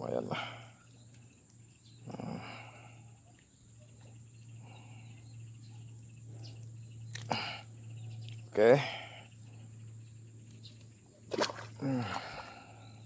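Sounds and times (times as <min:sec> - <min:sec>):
insects chirring: 0:00.0 - 0:13.0
low steady hum: 0:00.0 - 0:13.0.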